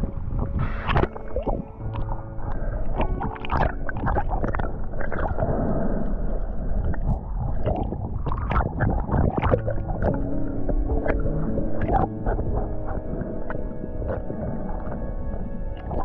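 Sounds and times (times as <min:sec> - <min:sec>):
muffled underwater gurgling: 0:00.0 - 0:16.0
bubbly splutters: 0:02.9 - 0:16.0.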